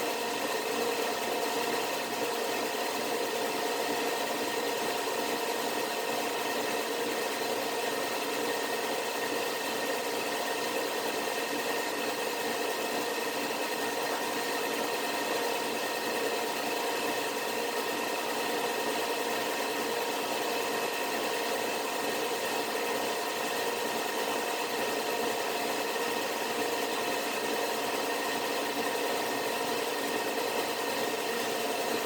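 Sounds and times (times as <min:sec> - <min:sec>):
woodworking power tool running: 0:00.0 - 0:32.0.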